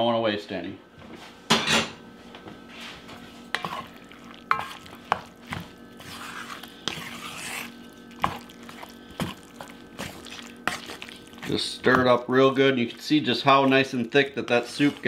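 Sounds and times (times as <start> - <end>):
spoon stirring thick filling: 2.8 - 15.0.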